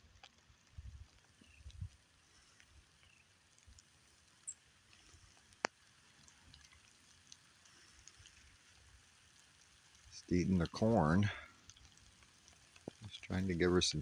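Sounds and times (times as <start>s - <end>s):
squirrel nibbling corn: 0.0s - 14.0s.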